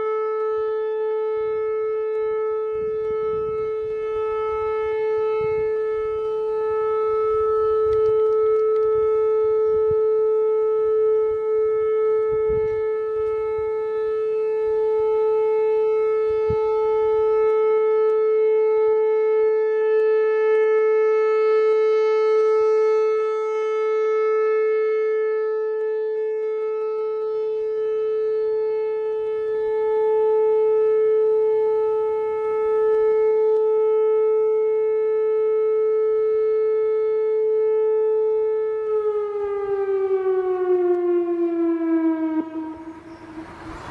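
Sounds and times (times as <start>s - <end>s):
outdoor warning siren: 0.0s - 43.9s.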